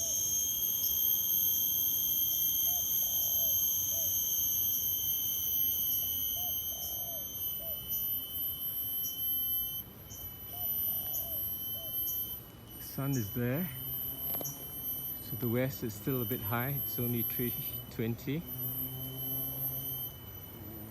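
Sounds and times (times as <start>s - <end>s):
cicadas chorus: 0.0s - 20.9s.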